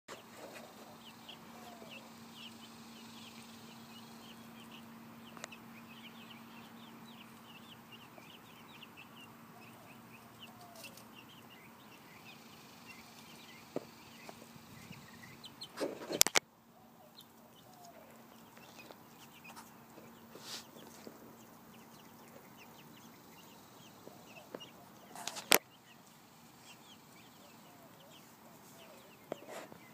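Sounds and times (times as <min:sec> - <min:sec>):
chickens clucking: 0:00.1 - 0:29.9
steady low hum: 0:00.1 - 0:29.9.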